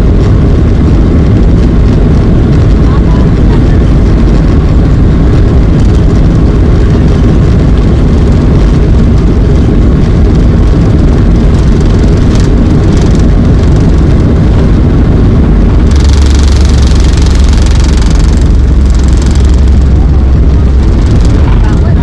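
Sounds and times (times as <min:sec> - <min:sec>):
jet engine roar in cabin: 0:00.0 - 0:22.0.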